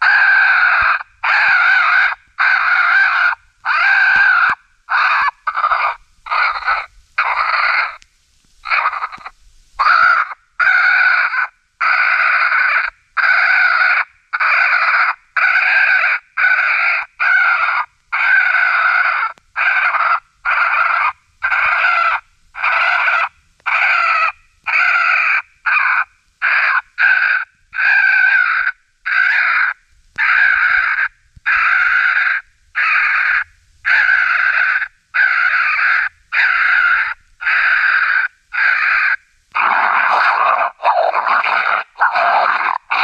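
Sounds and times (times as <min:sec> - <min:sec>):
raccoons squalling: 0:00.0 - 0:08.0, 0:08.6 - 0:43.0.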